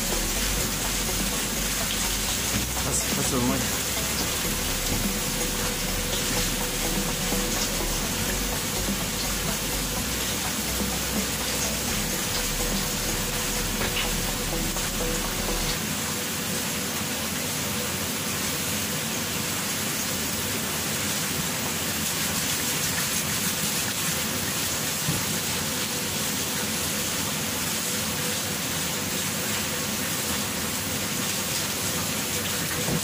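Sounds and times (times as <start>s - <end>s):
water running from a tap: 0.0s - 33.0s.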